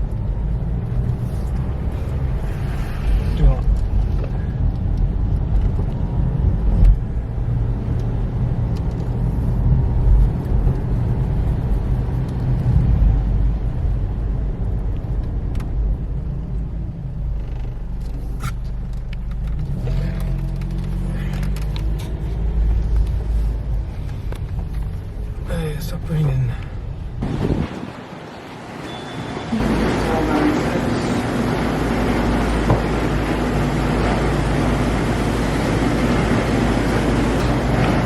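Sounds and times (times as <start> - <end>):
car engine running: 0.0 - 25.8, 29.6 - 38.0.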